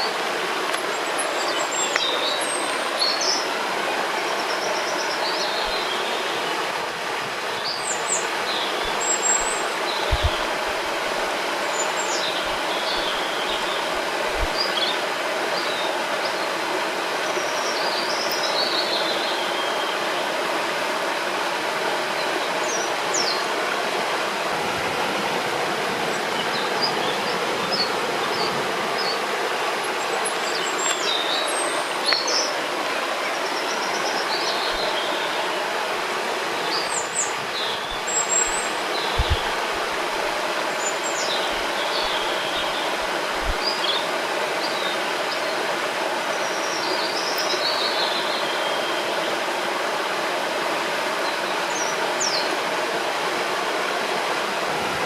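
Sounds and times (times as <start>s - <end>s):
rushing water: 0.0s - 55.0s
songbirds chirping: 0.0s - 55.0s.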